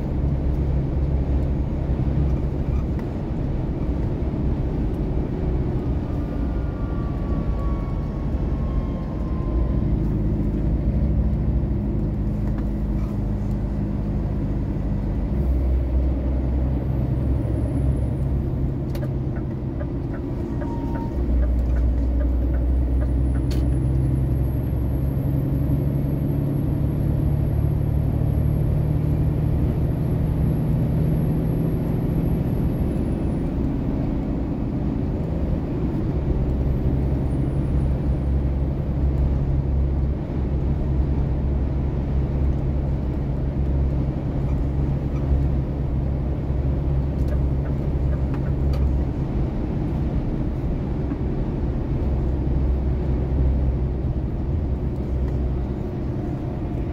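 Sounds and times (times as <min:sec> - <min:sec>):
engine drone and road rumble: 0:00.0 - 0:56.9.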